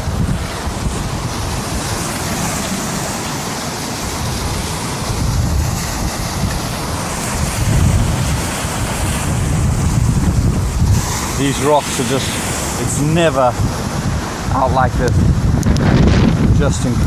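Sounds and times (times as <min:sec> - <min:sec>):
storm wind buffeting microphone: 0:00.0 - 0:17.0
surf rushing: 0:00.0 - 0:17.0.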